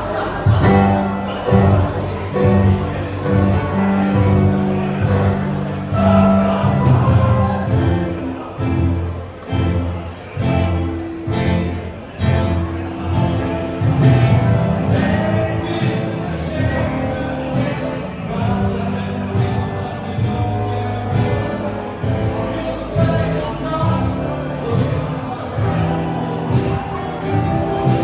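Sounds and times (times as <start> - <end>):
person singing: 0.0 - 9.2, 11.3 - 28.0
rock band playing live: 0.0 - 28.0.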